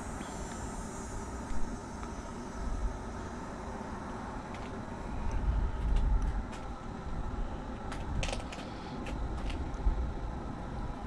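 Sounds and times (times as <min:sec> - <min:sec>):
steady outdoor noise: 0:00.0 - 0:11.0
wind buffeting microphone: 0:00.0 - 0:11.0.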